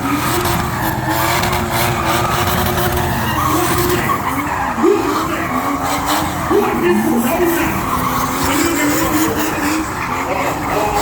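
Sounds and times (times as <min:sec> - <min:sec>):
car engine revving: 0:00.0 - 0:11.0
tyres squealing: 0:00.0 - 0:11.0.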